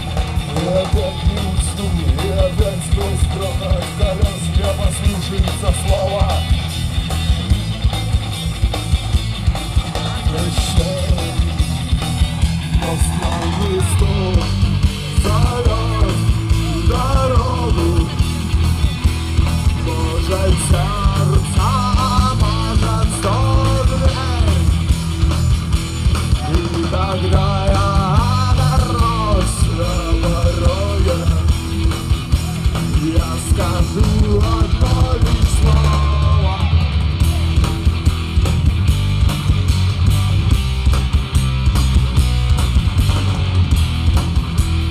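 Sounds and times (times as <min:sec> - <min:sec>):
drum beat: 0:00.0 - 0:44.9
rock music: 0:00.0 - 0:44.9.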